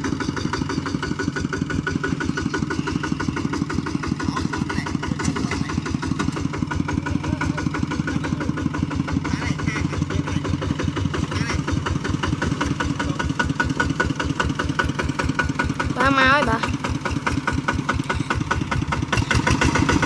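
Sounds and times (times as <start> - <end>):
tractor engine chugging: 0.0 - 20.0.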